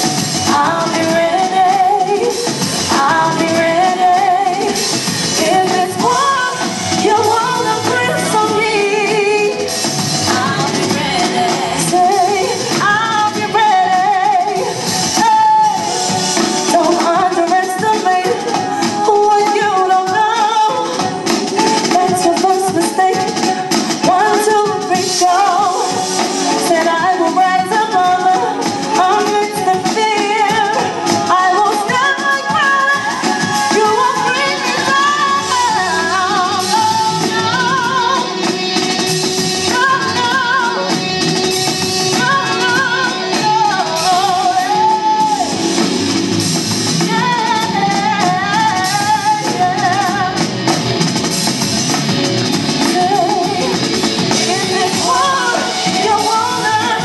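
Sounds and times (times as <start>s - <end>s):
woman singing into a microphone: 0.0s - 51.4s, 52.6s - 57.0s.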